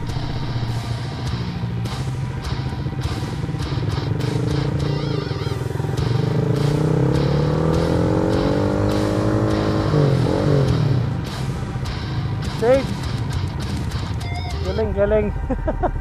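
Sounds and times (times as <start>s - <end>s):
background music: 0.0s - 16.0s
motorcycle engine accelerating: 0.0s - 16.0s.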